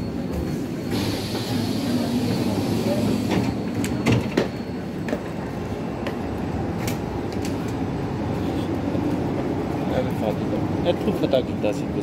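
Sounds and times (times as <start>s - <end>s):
metro train running noise: 0.0s - 12.0s.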